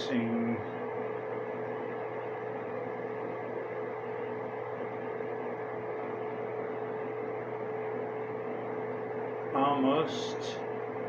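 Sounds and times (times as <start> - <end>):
dehumidifier humming: 0.0 - 11.0.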